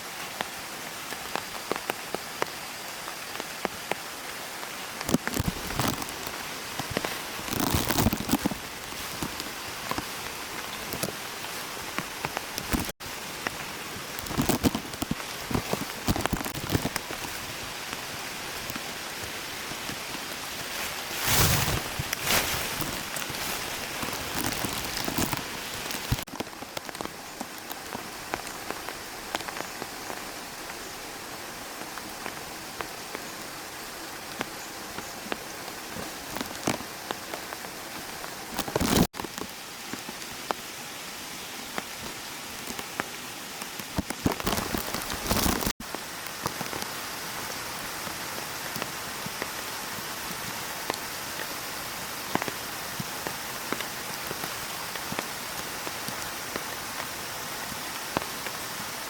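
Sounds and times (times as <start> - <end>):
rain drops ticking: 0.1 - 59.0.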